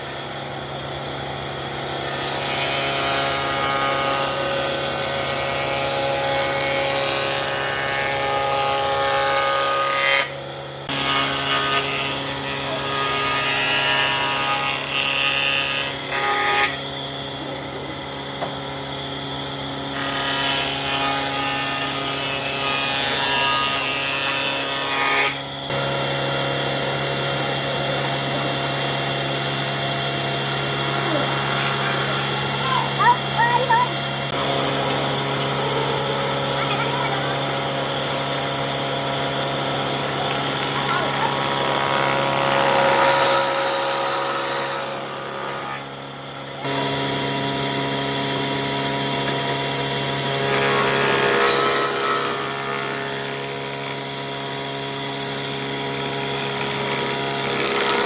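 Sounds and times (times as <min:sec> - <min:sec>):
power tools whining on wood: 0:00.0 - 0:58.0.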